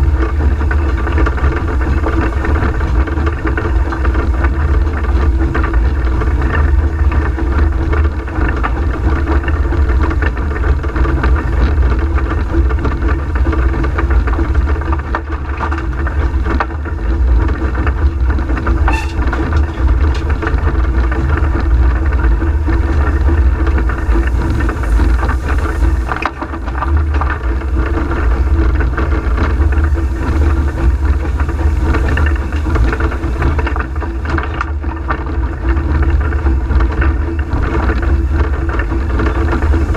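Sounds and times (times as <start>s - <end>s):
steam locomotive rumbling and rattling: 0.0s - 39.9s.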